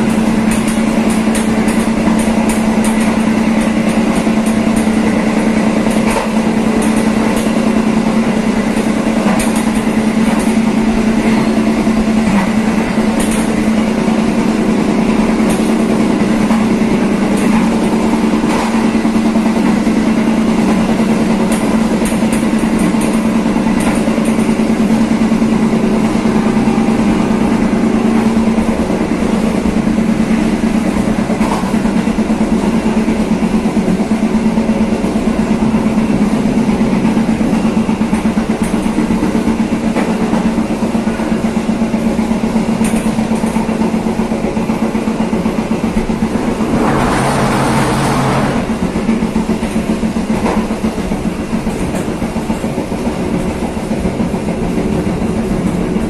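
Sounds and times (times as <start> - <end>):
passenger train running: 0.0 - 56.0.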